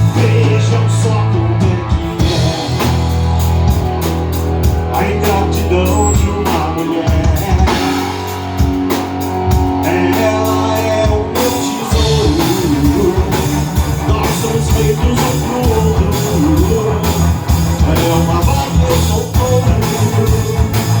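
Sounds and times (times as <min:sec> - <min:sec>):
bass guitar: 0:00.0 - 0:21.0
drum kit: 0:00.0 - 0:21.0
guitar playing: 0:00.0 - 0:21.0.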